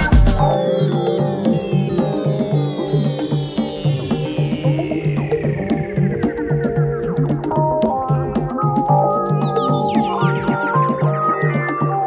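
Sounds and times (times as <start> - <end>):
background music with steady beat: 0.0 - 12.0
falling high notes: 0.0 - 12.0.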